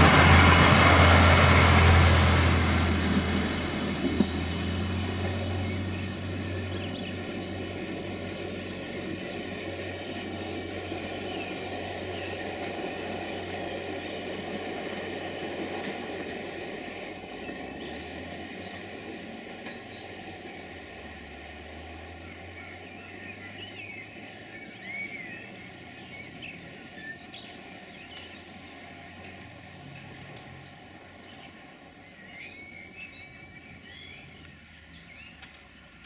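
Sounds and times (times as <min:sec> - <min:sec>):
low locomotive drone: 0:00.0 - 0:36.0
train running noise: 0:00.0 - 0:36.0.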